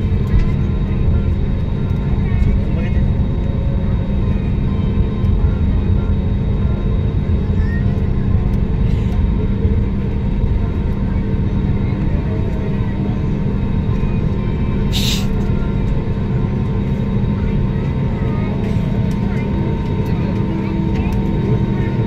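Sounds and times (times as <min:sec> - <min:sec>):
jet engine rumble in cabin: 0:00.0 - 0:22.0.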